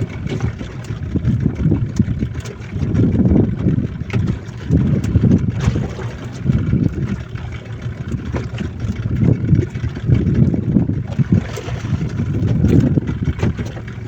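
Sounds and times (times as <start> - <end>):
motorboat motor: 0.0 - 14.0
water: 0.0 - 14.0
wind buffeting microphone: 0.0 - 14.0.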